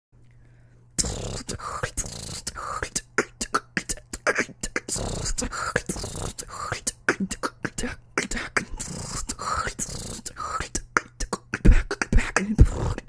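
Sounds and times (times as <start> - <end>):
person beatboxing: 1.0 - 13.0.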